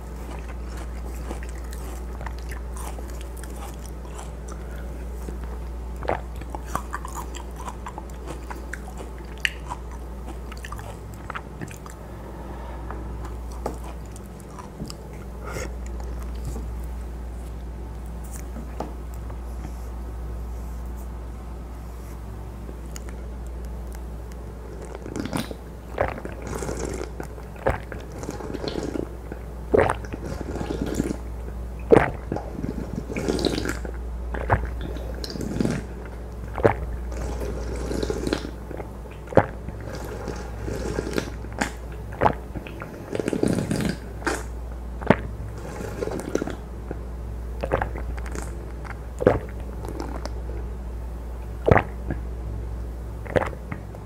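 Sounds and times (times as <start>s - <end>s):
wet slurping and chewing: 0.0s - 18.8s, 22.9s - 50.7s, 51.4s - 52.2s, 53.2s - 54.0s
steady low hum: 0.0s - 54.0s.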